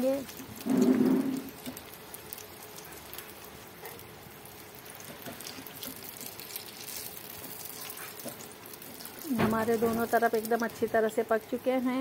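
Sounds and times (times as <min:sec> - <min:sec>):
fritters deep-frying in oil: 0:00.0 - 0:12.0.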